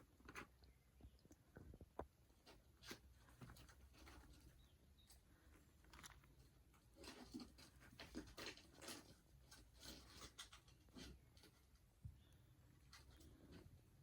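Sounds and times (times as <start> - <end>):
rats rustling and nibbling leaves: 0.0 - 14.0.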